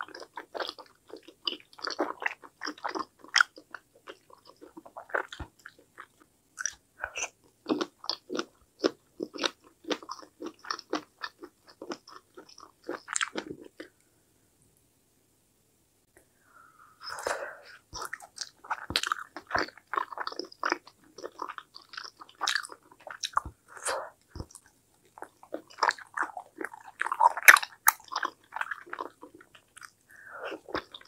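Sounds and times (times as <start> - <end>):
wet chewing and smacking: 0.0 - 13.9, 17.9 - 23.6, 24.2 - 31.0.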